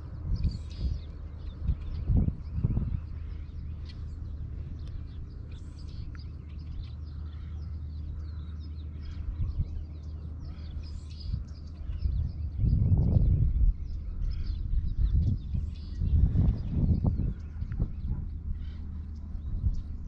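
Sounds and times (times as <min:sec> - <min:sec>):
birds chirping: 0:00.0 - 0:20.0
low rumble: 0:00.0 - 0:20.0.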